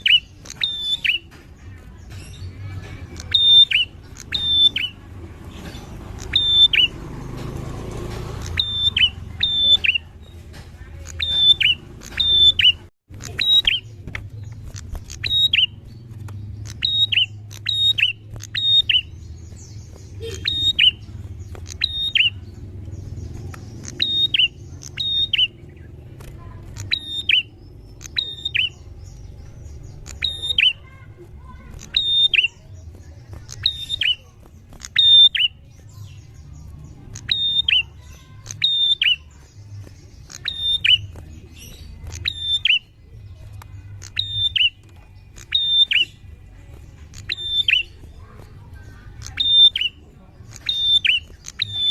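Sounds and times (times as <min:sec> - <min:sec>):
bird calling with sharp high notes: 0:00.0 - 0:07.1, 0:08.1 - 0:25.9, 0:26.7 - 0:51.9.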